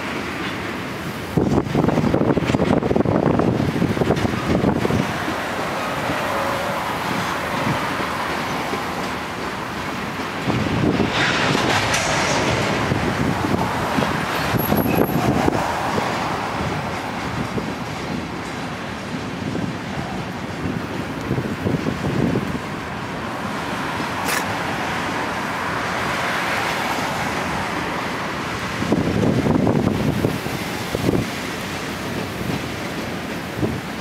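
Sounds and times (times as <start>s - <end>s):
freight train wheels rumbling: 0.0s - 34.0s
wind gusts on microphone: 0.0s - 34.0s.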